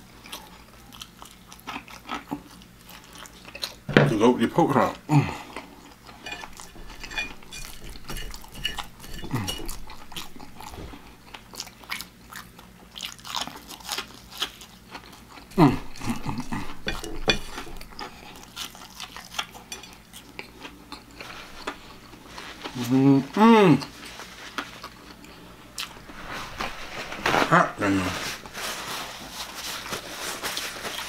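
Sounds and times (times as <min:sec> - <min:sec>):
chewing and crunching food: 0:00.0 - 0:03.9, 0:04.6 - 0:31.0.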